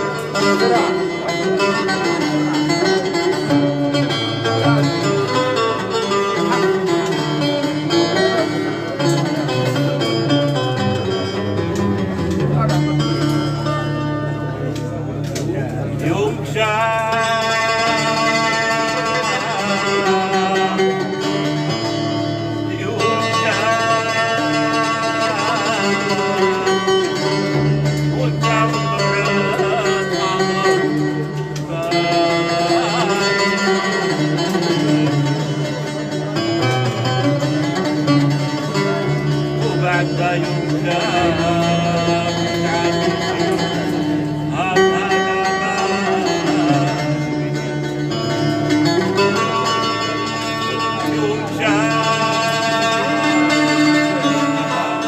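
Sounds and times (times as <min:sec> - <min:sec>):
plucked string instruments: 0:00.0 - 0:55.0.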